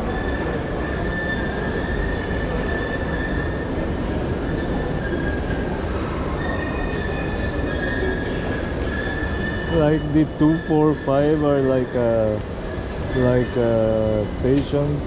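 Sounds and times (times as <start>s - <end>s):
wheels squealing: 0.0s - 14.6s.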